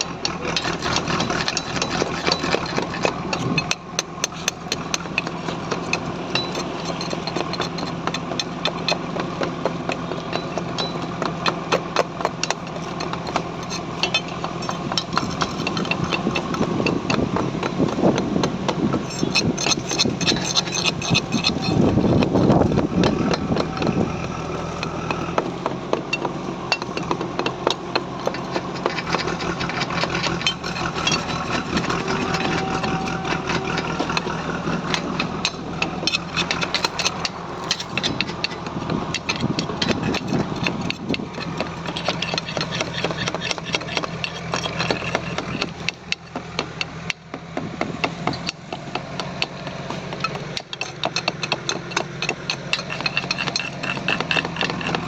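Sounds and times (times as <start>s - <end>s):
metallic clicks and knocks: 0.0s - 55.0s
small engine running: 0.0s - 55.0s.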